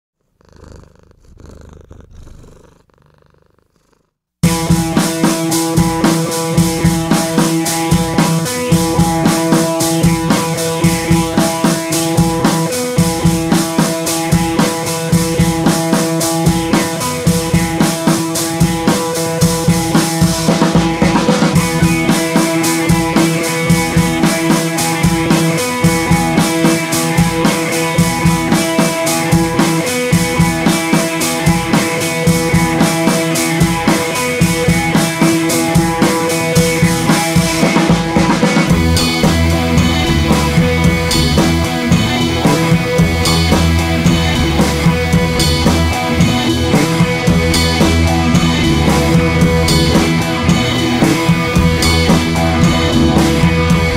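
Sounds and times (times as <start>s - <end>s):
instrumental music with drum beat: 4.4s - 53.9s.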